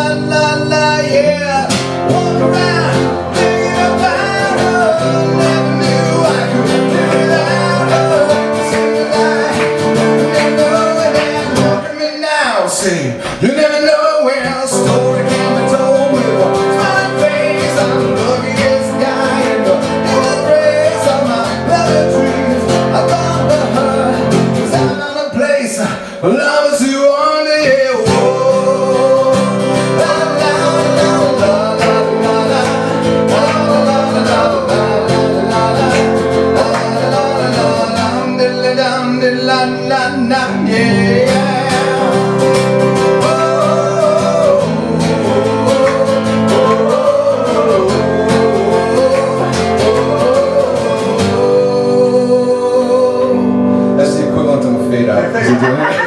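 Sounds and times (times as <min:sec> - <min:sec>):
live rock and roll guitars: 0:00.0 - 0:56.0.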